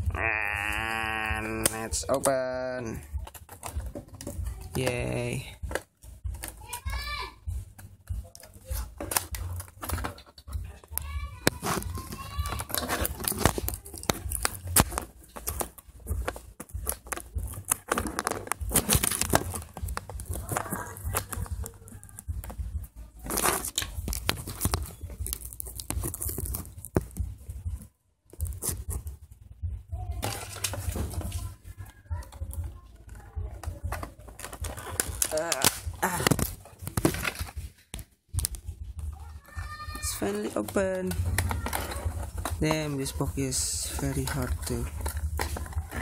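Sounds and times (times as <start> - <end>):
plastic packaging crinkling and clicking: 1.4 - 29.2, 30.2 - 46.0.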